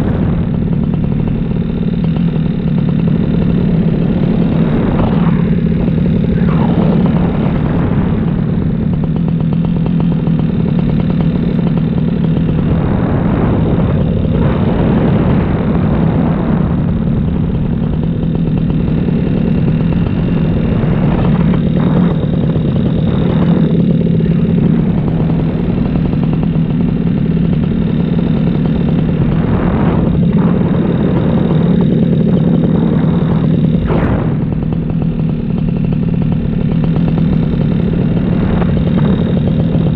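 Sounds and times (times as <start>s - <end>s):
paramotor engine and propeller: 0.0s - 39.9s
rushing wind: 0.0s - 39.9s.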